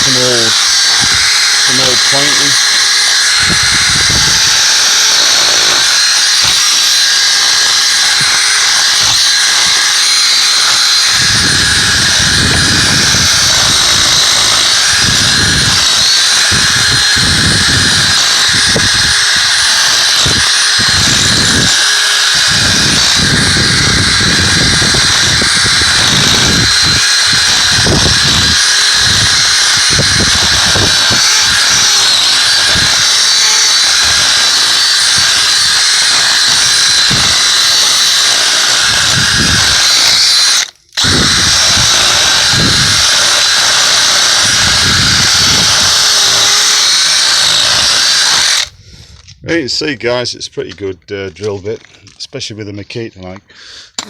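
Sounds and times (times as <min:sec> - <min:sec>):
hammer drill motor whine: 0:00.0 - 0:49.3
drill bit rattling in mortar: 0:00.0 - 0:49.4.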